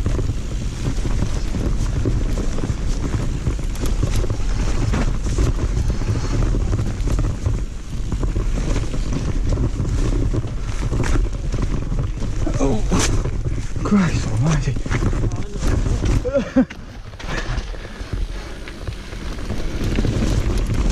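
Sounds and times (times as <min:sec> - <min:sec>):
bike rattling clicks: 0:00.0 - 0:20.9
low rumble of tyres: 0:00.0 - 0:20.9
wind buffeting microphone: 0:00.0 - 0:20.9.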